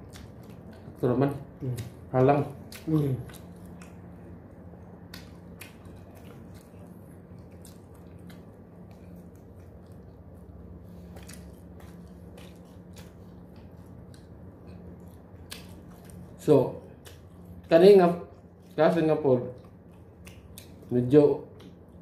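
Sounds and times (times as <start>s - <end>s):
people chewing: 0.0s - 22.0s
steady low hum: 0.0s - 22.0s.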